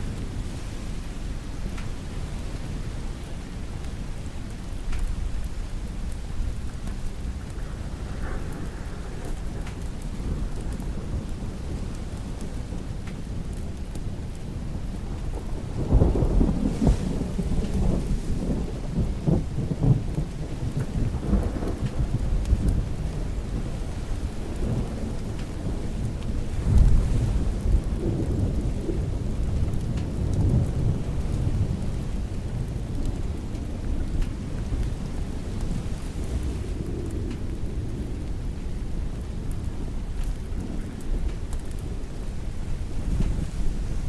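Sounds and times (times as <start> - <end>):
steady rain: 0.0 - 44.0
thunder rumbling: 0.0 - 44.0.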